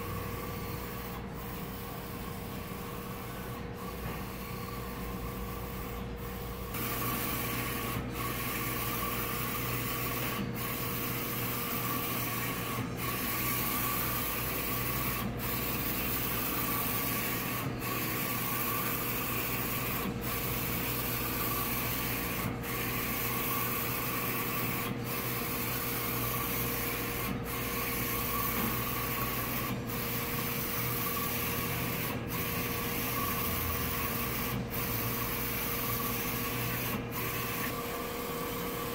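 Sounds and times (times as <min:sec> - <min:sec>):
printer running with hum: 0:00.0 - 0:38.9.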